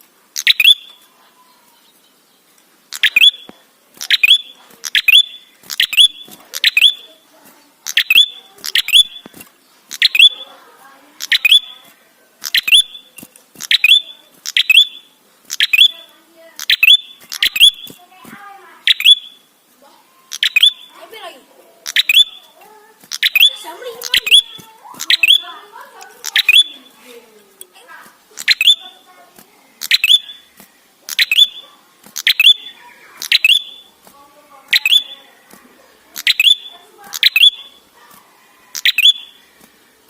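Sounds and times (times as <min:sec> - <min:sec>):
bird sharp chirping calls: 0:00.4 - 0:10.6, 0:11.2 - 0:18.0, 0:18.8 - 0:19.6, 0:20.2 - 0:27.0, 0:28.3 - 0:29.1, 0:29.7 - 0:34.0, 0:34.7 - 0:35.4, 0:36.1 - 0:38.0, 0:38.7 - 0:39.5.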